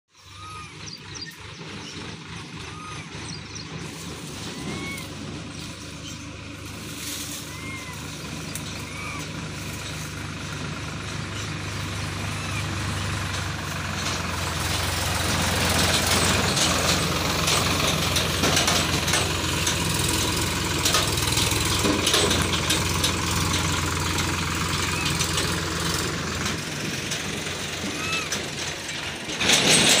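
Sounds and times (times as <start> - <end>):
motor engine humming: 0.1 - 30.0.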